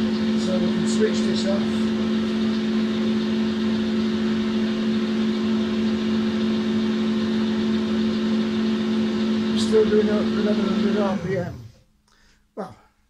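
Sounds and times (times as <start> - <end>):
lathe humming: 0.0 - 11.7.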